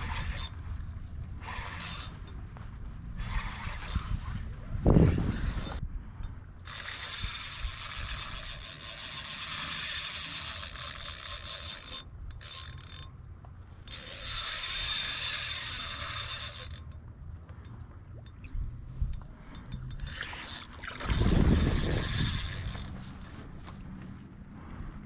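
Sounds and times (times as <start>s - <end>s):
fishing reel whirring: 0.0s - 24.0s.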